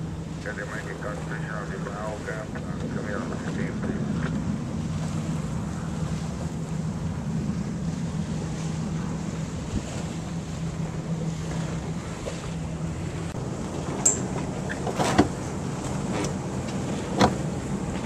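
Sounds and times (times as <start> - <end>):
low hum: 0.0 - 18.0
water rushing along hull: 0.0 - 18.0
wind buffeting microphone: 0.0 - 18.0.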